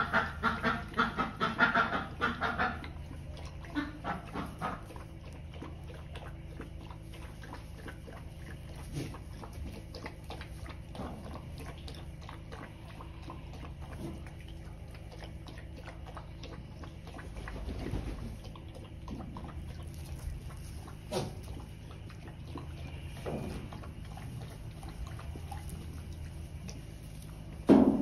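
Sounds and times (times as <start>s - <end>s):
puppy lapping water: 0.0s - 28.0s
steady low hum: 0.0s - 28.0s.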